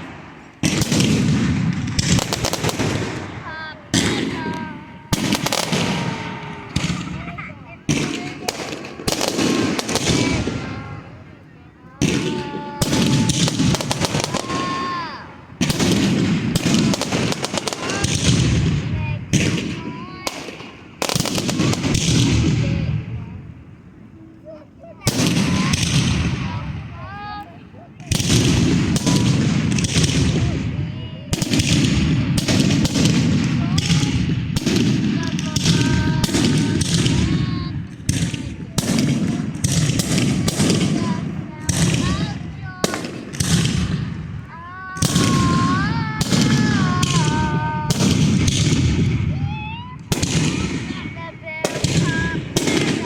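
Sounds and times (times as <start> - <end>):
firework bangs: 0.0 - 53.0
firework crackling: 0.0 - 53.0.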